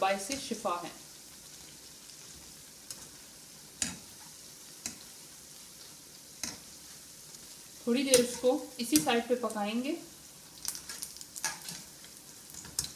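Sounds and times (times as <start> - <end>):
frying in hot oil sizzling: 0.0 - 12.9.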